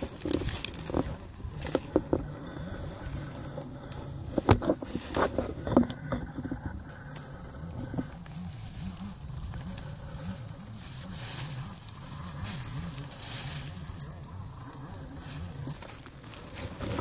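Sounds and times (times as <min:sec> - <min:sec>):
dry reeds rustling: 0:00.0 - 0:17.0
low wobbling rumble: 0:00.0 - 0:17.0
reed stalks snapping: 0:00.0 - 0:17.0.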